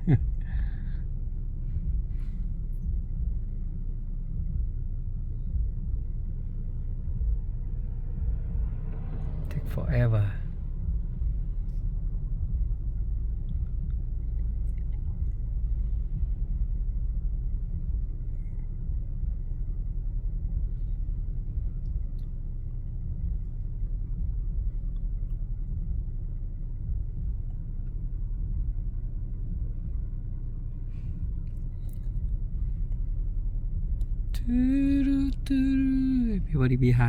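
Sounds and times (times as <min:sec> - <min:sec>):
car idling: 0:00.0 - 0:37.0.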